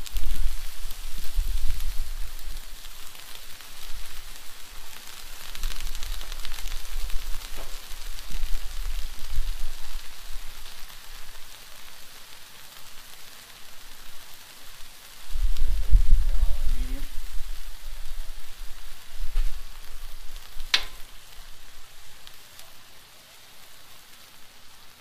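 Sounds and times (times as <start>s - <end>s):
food sizzling on a griddle: 0.0s - 25.0s.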